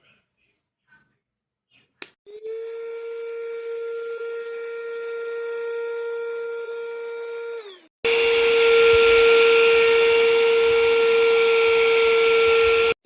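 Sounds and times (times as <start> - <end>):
handheld vacuum cleaner whining: 2.3 - 13.0.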